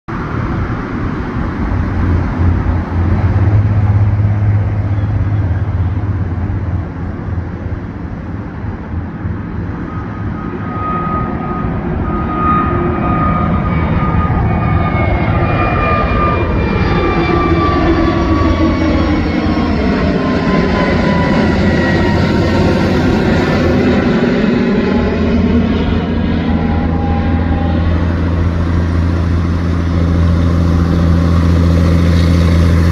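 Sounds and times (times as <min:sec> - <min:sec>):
jet airliner rumble: 0:00.1 - 0:32.9
whining jet engine tones: 0:00.1 - 0:32.9.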